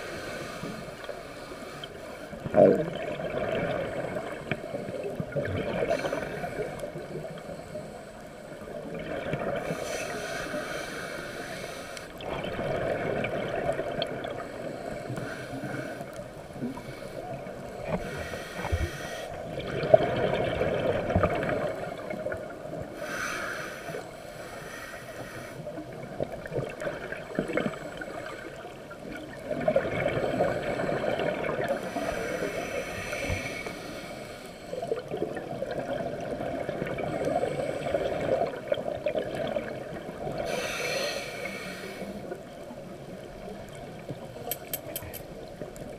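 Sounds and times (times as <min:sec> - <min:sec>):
muffled underwater rush: 0:00.0 - 0:44.4.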